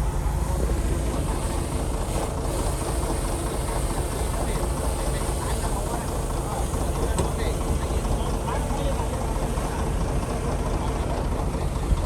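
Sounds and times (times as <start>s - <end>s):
diesel machinery rumbling: 0.0s - 12.0s.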